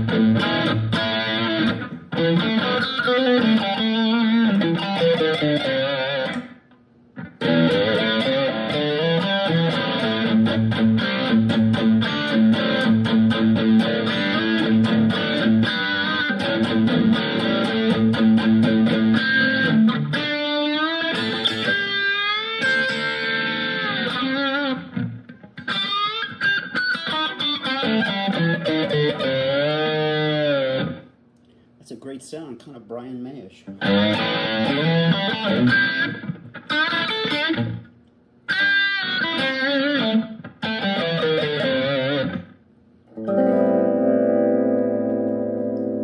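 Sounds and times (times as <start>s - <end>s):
electric guitar picked notes: 0.0s - 31.1s, 33.8s - 37.9s, 38.5s - 46.0s.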